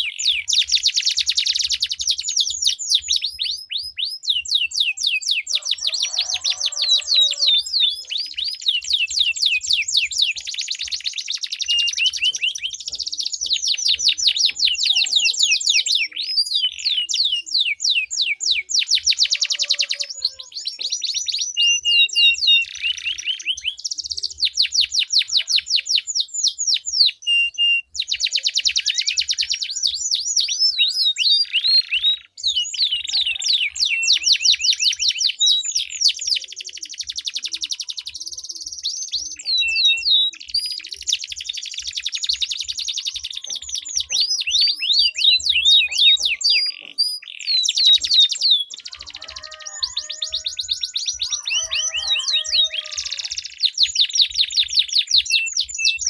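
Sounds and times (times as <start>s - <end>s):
canaries singing trills: 0.0s - 56.0s.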